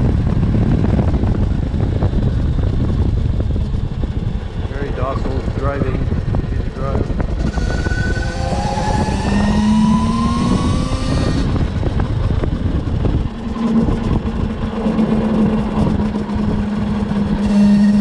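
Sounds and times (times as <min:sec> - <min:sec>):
electric motorcycle motor whine: 0:00.0 - 0:18.0
wind rumble on microphone: 0:00.0 - 0:18.0.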